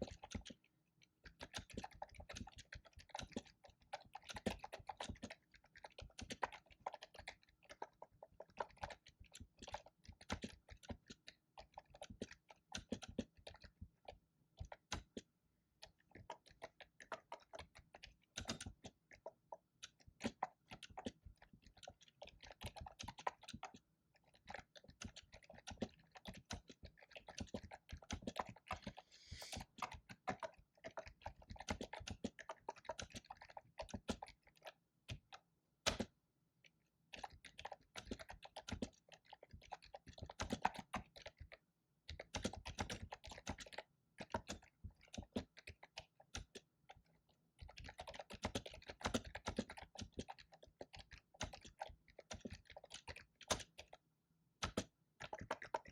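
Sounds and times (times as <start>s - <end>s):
fast typing on keyboard: 0.0s - 0.6s, 1.2s - 13.8s, 15.9s - 36.1s, 37.1s - 54.0s, 54.6s - 55.9s.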